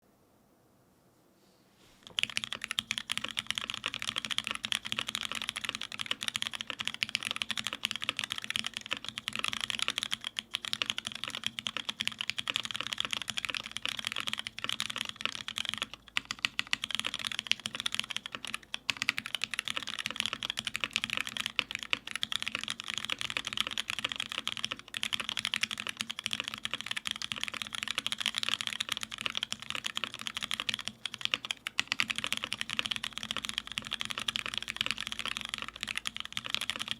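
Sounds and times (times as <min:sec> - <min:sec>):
fast typing on mechanical keyboard: 0:02.0 - 0:36.9.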